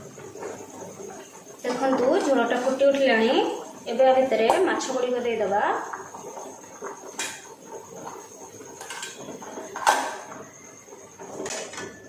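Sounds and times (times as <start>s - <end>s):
gravy bubbling: 0.0s - 12.0s.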